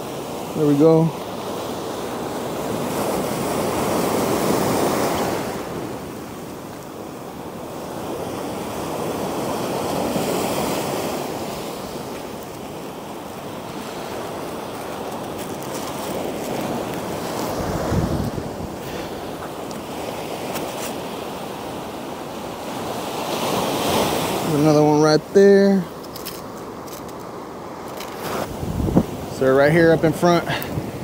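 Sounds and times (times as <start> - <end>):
small waves washing on sand: 0.0 - 31.0.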